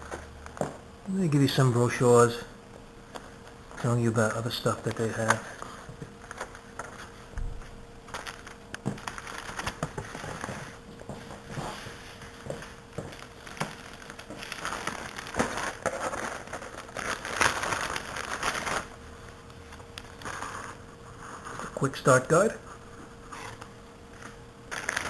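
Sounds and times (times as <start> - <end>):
paper and plastic rustling: 3.2 - 22.2, 23.2 - 25.0.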